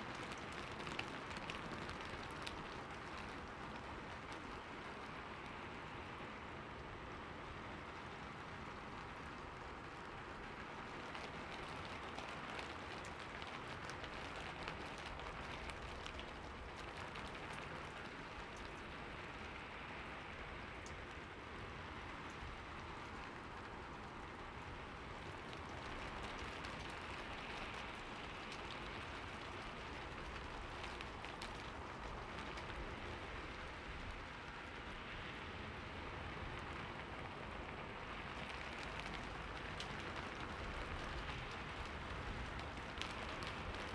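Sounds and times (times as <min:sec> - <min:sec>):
raindrop ticks: 0:00.0 - 0:05.7, 0:08.7 - 0:43.9
steady rain hiss: 0:00.0 - 0:43.9.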